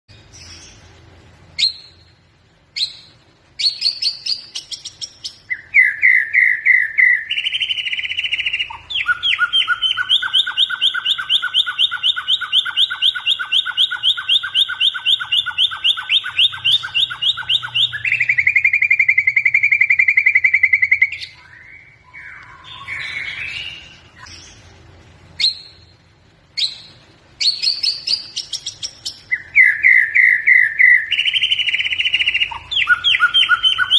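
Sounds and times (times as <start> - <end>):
songbird singing whistles and trills: 1.5 - 24.7, 25.3 - 33.9.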